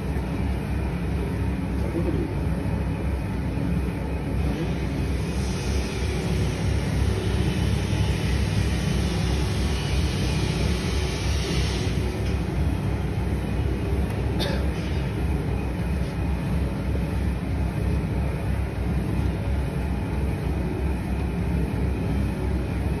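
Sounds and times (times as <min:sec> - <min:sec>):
feed mixer machine drone: 0:00.0 - 0:23.0.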